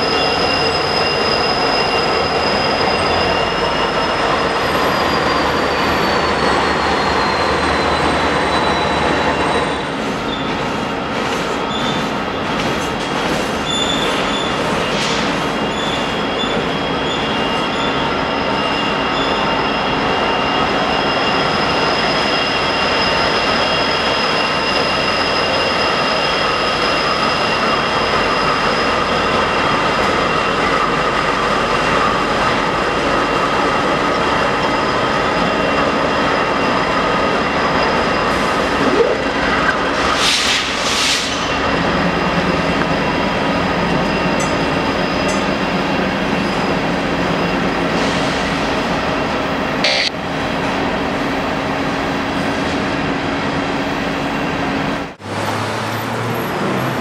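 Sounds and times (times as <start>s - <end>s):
high-pitched wheel squeal: 0.0s - 10.7s, 13.0s - 48.6s.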